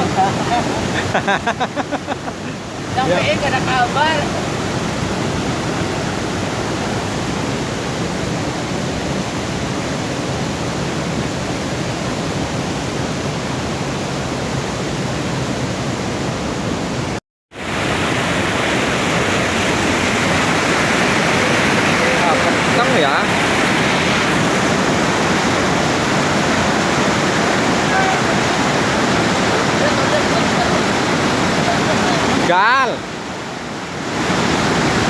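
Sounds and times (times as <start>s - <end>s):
river water rushing over rapids: 0.0s - 35.0s.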